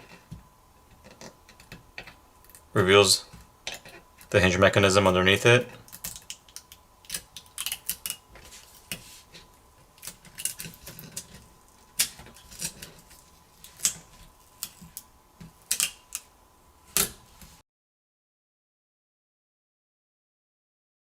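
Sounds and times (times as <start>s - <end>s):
faint steady hum: 0.0s - 17.6s.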